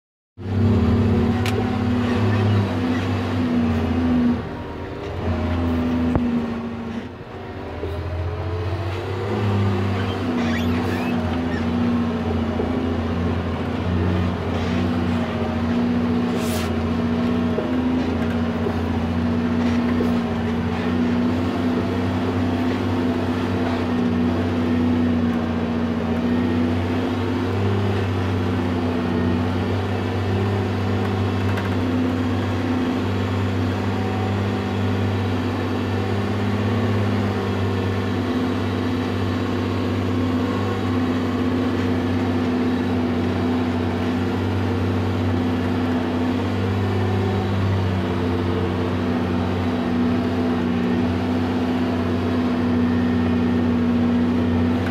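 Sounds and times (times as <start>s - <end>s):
diesel engine running: 0.4s - 54.9s.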